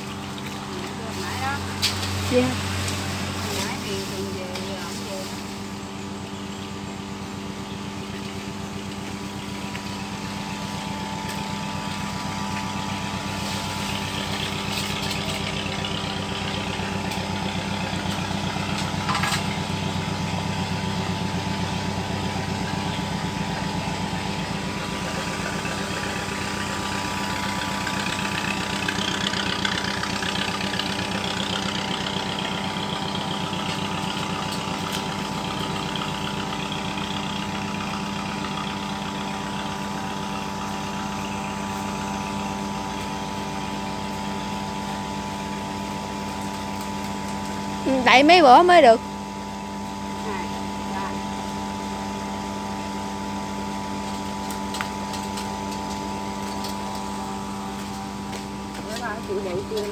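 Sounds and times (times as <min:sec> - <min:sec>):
small engine humming: 0:00.0 - 0:59.9.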